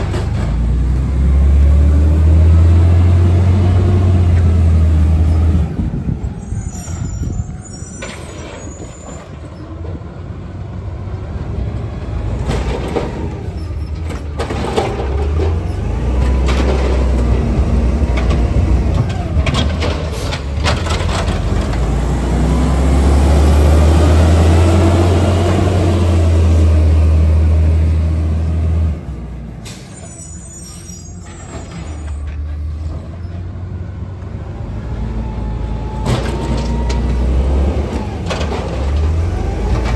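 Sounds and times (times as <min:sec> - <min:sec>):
garbage truck engine: 0:00.0 - 0:39.9.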